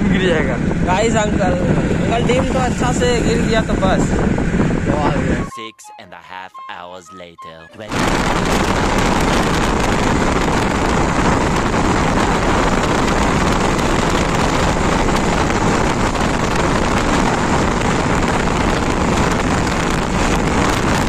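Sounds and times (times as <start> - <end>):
wind rush on microphone: 0.0 - 5.5, 7.9 - 21.0
road noise: 0.0 - 5.6, 7.4 - 21.0.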